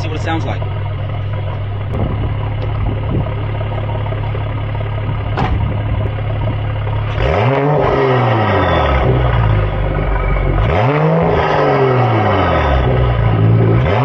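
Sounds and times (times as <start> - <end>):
engine throttle blip: 0.0 - 11.4
car engine idling: 0.0 - 14.0.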